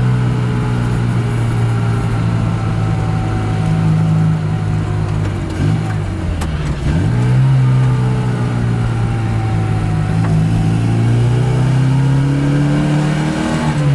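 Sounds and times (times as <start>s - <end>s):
car engine accelerating: 0.0s - 13.9s.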